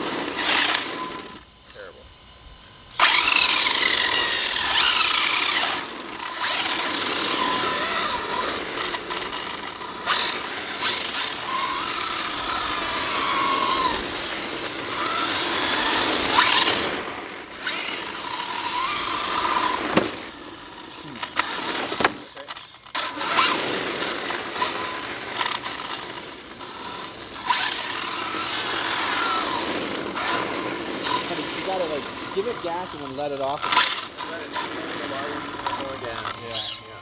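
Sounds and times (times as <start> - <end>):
tyres sliding on pavement: 0.0 - 1.4, 3.0 - 37.0
electric motor whining: 0.0 - 37.0.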